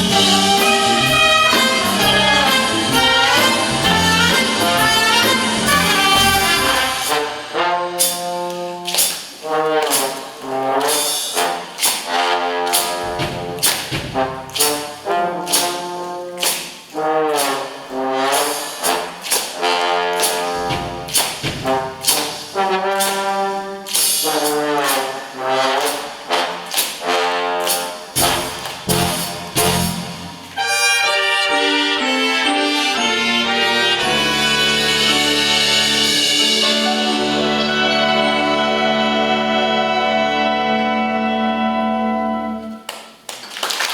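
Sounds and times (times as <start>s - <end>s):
brass section phrases: 0.0s - 42.9s
percussion: 0.0s - 43.9s.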